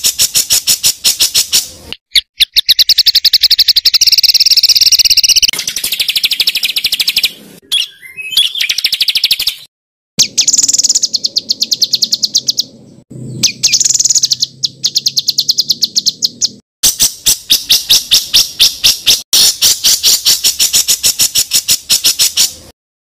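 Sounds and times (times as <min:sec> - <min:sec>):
songbird trilling: 0:00.0 - 0:22.6.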